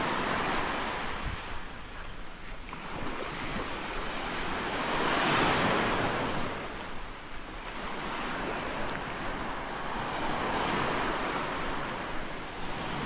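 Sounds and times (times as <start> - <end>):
small waves breaking on sand: 0.0 - 13.0.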